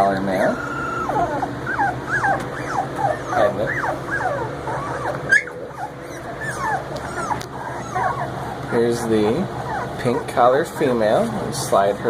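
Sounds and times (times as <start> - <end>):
puppies whimpering and squeaking: 0.0 - 12.0.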